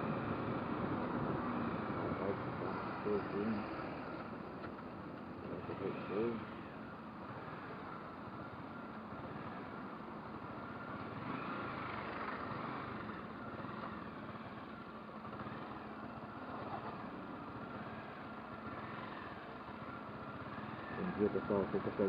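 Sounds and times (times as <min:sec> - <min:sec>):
constant rushing noise: 0:00.0 - 0:22.0
motorcycle engine running: 0:00.0 - 0:22.0.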